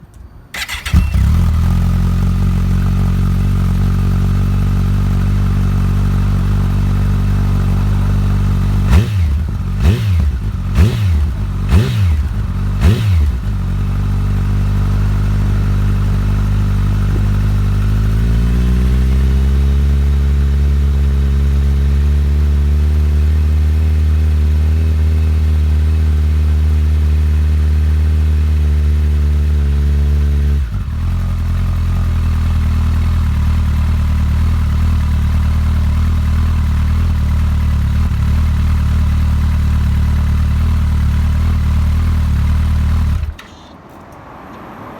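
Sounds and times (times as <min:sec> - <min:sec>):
motorcycle engine idling and revving: 0:00.6 - 0:44.9.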